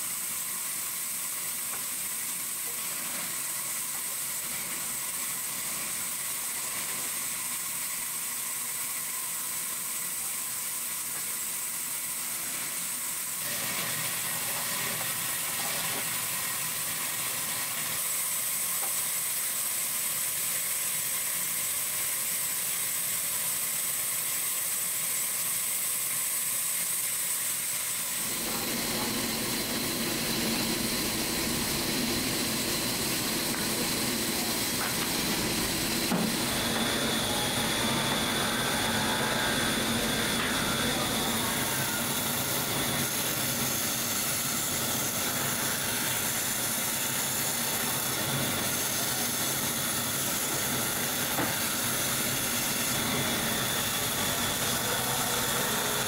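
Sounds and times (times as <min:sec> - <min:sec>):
workshop machinery hissing: 0:00.0 - 0:56.0.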